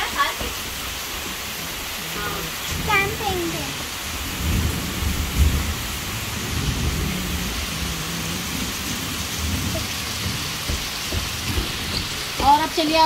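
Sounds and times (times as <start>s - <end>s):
steady rain falling: 0.0s - 13.0s
low rumble of thunder: 2.5s - 13.0s.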